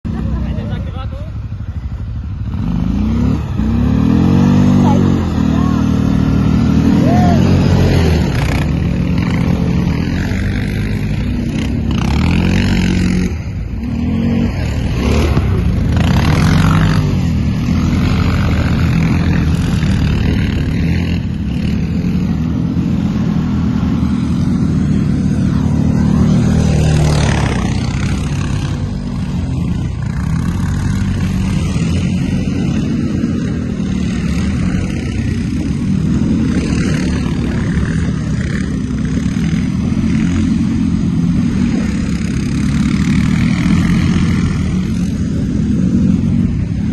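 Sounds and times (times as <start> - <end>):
atv engine revving: 0.1 - 46.9.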